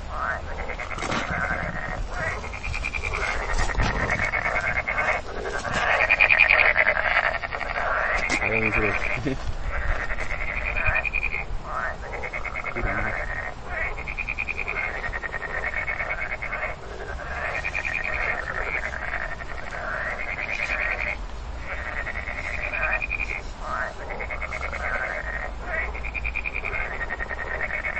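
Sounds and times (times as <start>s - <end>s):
frog calling: 0.0s - 27.9s.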